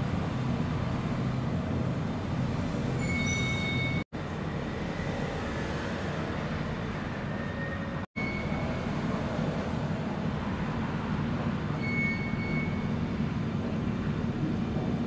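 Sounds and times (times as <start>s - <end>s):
distant engines rumbling: 0.0s - 15.0s.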